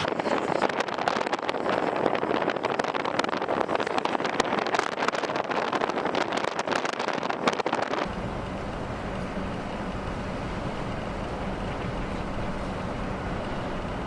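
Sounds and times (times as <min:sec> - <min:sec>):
vehicle engine humming: 0:00.0 - 0:14.0
wind buffeting microphone: 0:00.0 - 0:14.0.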